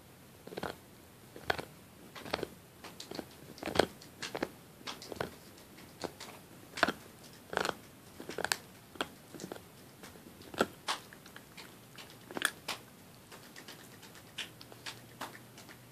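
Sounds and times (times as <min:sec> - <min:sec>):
dog gnawing hard chew bone: 0:01.4 - 0:15.8.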